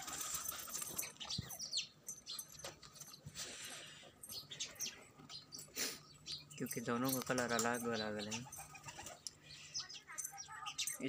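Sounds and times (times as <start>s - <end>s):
bird chirps: 0.8s - 11.0s.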